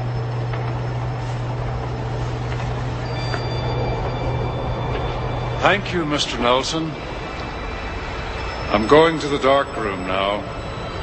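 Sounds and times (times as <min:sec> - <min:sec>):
faint high steady tones: 0:00.0 - 0:11.0
machine hum with hiss: 0:00.0 - 0:11.0.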